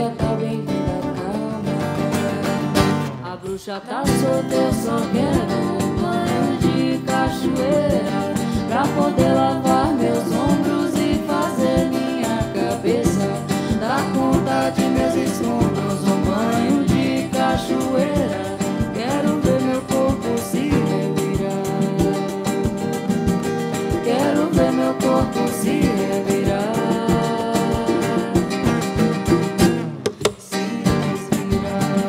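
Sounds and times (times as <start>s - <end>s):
guitar: 0.0s - 32.0s
person singing: 0.0s - 32.0s
live band music: 4.1s - 32.0s.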